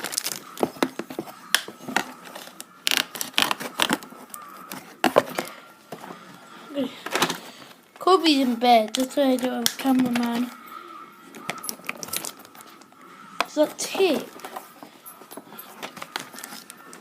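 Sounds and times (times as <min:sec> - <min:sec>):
objects being handled: 0:00.0 - 0:17.0.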